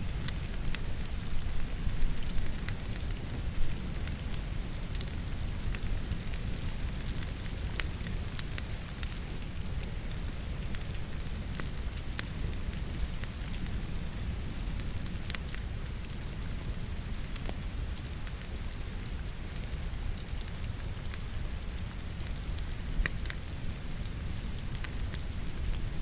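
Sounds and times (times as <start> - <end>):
logs crackling in fireplace: 0.0 - 26.0
rain hissing: 0.0 - 26.0.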